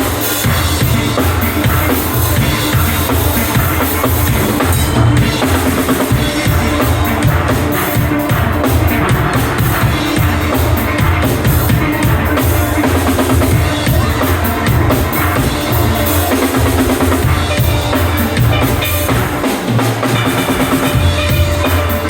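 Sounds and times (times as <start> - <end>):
bass drum beat: 0.0 - 22.0
drum kit: 0.0 - 22.0
steel pans playing: 0.0 - 22.0.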